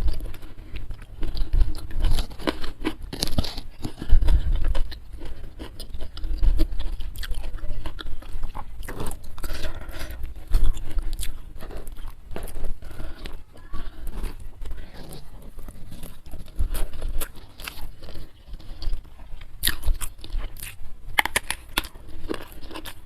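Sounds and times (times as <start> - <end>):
crunchy bites and chewing: 0.0 - 23.0.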